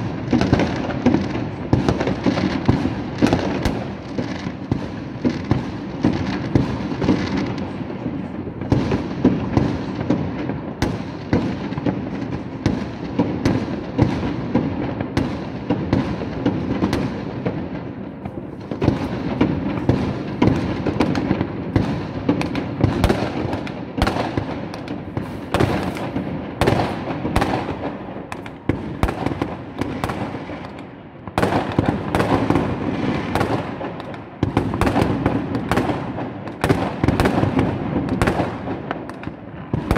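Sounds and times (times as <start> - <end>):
fireworks bangs and crackling: 0.0 - 39.9
sharp firework pops: 0.0 - 39.9.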